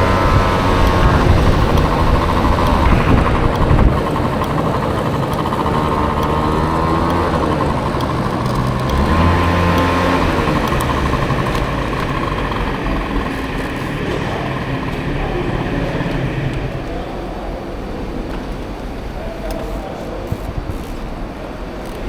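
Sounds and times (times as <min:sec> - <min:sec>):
motor scooter engine running: 0:00.0 - 0:17.8, 0:18.4 - 0:22.0.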